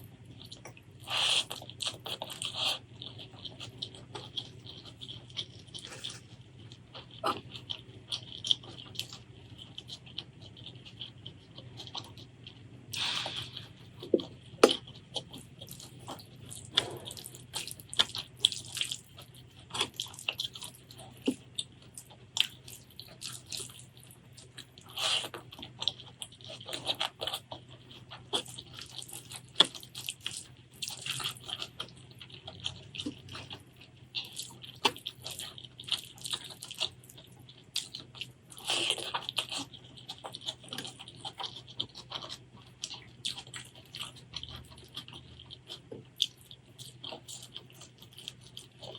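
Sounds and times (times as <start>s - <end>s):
wet chewing: 0.0s - 48.9s.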